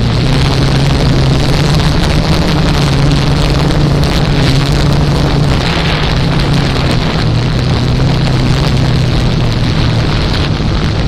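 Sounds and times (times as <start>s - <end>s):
drone propellers humming: 0.0s - 11.0s
wind noise on microphone: 0.0s - 11.0s.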